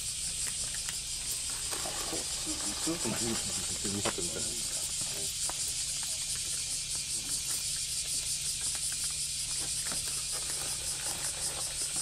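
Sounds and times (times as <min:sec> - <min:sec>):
cats eating with faint clicks: 0:00.0 - 0:12.0
cicadas shrilling: 0:00.0 - 0:12.0.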